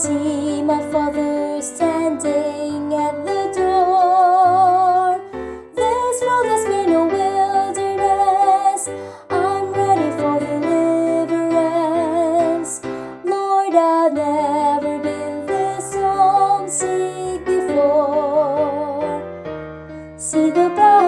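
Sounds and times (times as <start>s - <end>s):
woman singing with vibrato: 0.0s - 19.2s, 20.2s - 21.0s
gospel song accompaniment: 0.0s - 21.0s.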